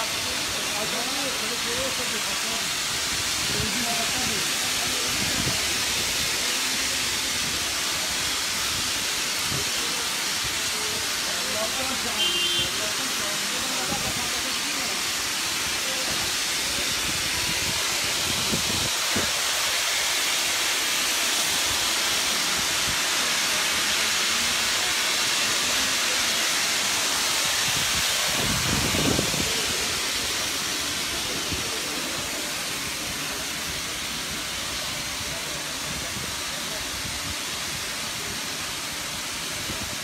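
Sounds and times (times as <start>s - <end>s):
gas hissing from pipe: 0.0s - 40.0s.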